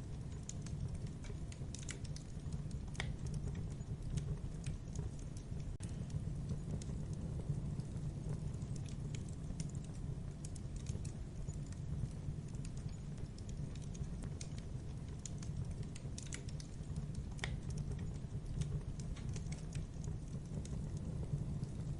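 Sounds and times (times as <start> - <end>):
fire crackles and pops: 0.0 - 21.9
fire flames rumbling: 0.0 - 21.9.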